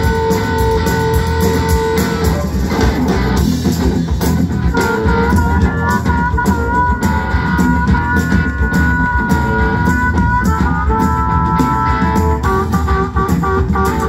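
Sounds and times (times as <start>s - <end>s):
electric guitar: 0.0s - 14.0s
live rock band: 0.0s - 14.0s.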